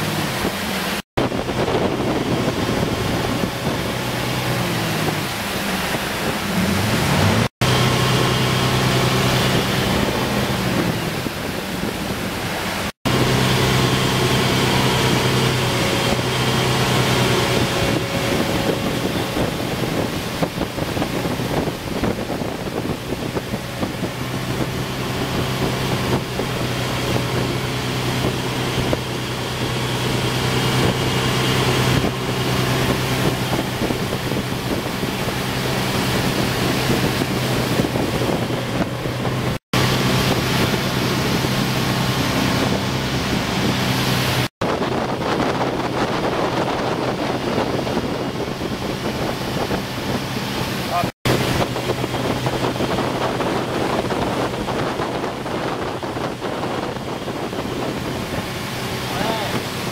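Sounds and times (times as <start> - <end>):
boat engine running: 0.0 - 59.9
water rushing: 0.0 - 59.9
wind buffeting microphone: 0.0 - 59.9.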